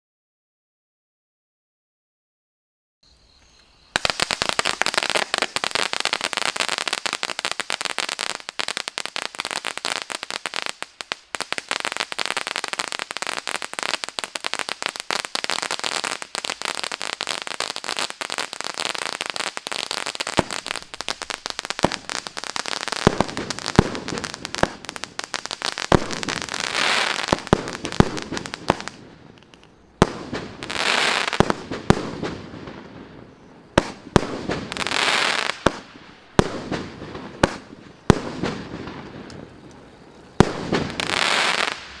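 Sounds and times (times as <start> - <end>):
fireworks crackling and hissing: 3.6 - 42.0
firework shots: 3.9 - 42.0.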